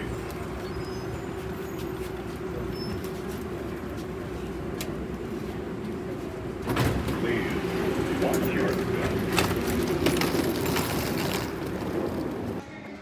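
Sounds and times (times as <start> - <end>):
people-mover train hum and rumble: 0.0 - 13.0.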